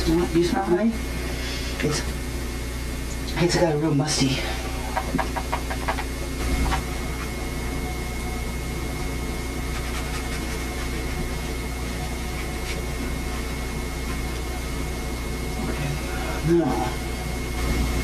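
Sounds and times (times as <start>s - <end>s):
faint high whine: 0.0s - 18.0s
steady hiss and low hum: 0.0s - 18.0s.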